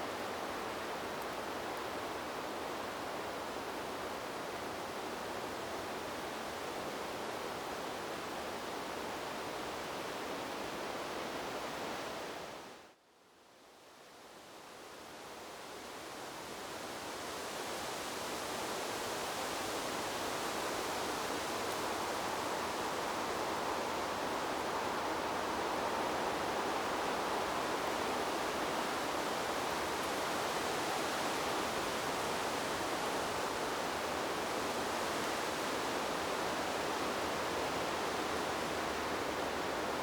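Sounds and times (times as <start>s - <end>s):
wind blowing through trees: 0.0s - 40.0s.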